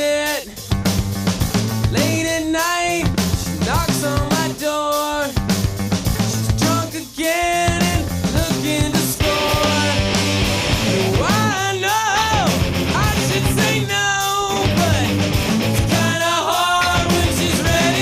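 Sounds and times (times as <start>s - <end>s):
rock song with vocals: 0.0s - 18.0s.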